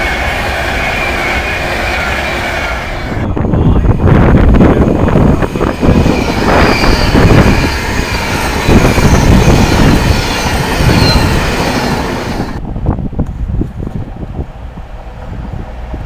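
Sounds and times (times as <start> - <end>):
electric train passing at speed: 0.0 - 16.0.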